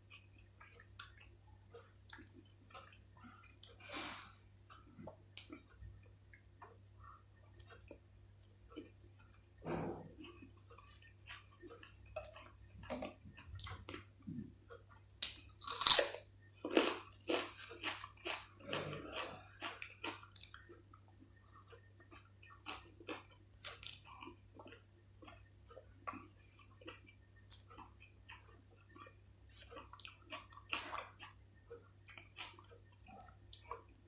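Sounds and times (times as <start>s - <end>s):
biting and chewing food: 0.0s - 3.8s, 4.6s - 34.0s.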